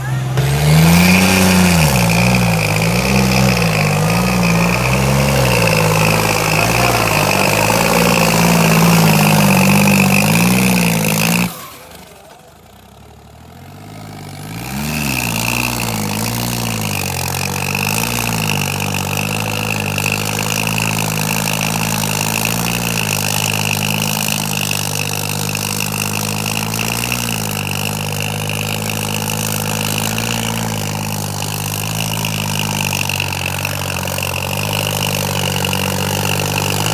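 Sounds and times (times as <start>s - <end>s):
tractor engine under load: 0.0s - 36.9s.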